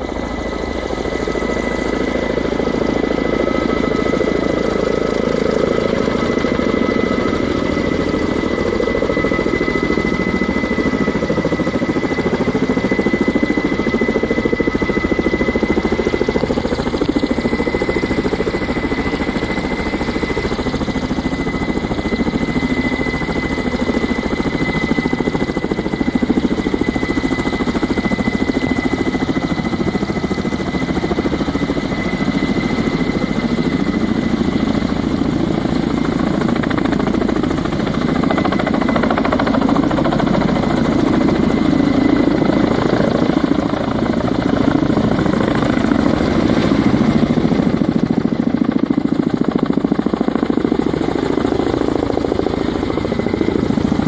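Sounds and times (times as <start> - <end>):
helicopter rotors: 0.0 - 54.0
high turbine whine: 0.0 - 54.0.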